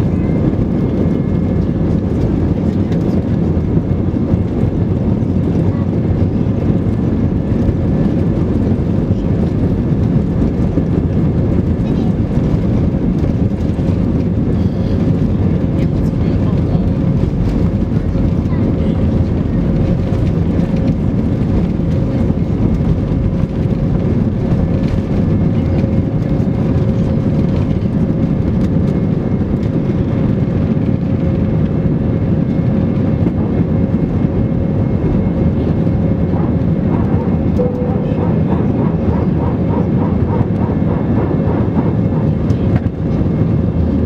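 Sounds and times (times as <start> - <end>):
jet airliner taking off: 0.0 - 44.0.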